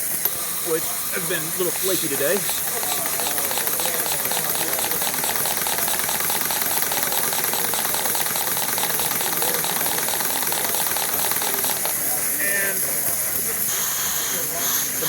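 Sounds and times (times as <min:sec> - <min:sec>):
model engine running: 0:00.0 - 0:15.0.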